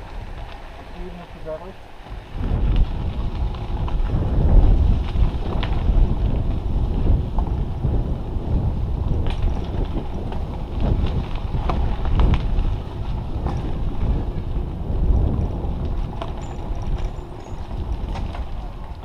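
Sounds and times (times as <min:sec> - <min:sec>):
bicycle tyres on dirt path: 0:00.0 - 0:19.0
bike clicks and rattles: 0:00.0 - 0:19.0
wind buffeting microphone: 0:00.0 - 0:19.0.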